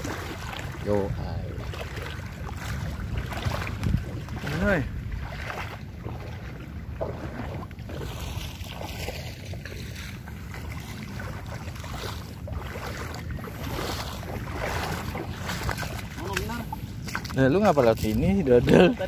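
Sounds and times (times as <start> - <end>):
footsteps splashing through water: 0.0 - 19.0
wind buffeting microphone: 0.0 - 19.0.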